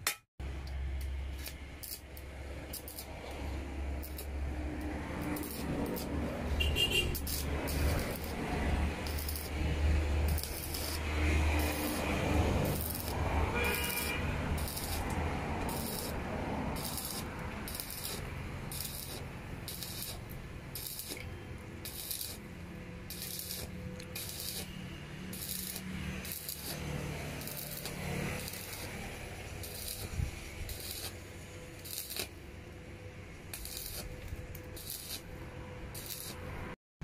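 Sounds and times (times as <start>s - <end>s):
welding arc crackling and sizzling: 0.0s - 36.8s.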